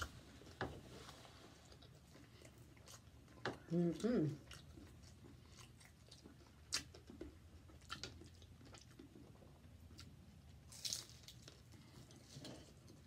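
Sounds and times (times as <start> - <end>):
wet chewing: 0.0 - 13.0
food crunching: 1.6 - 13.0.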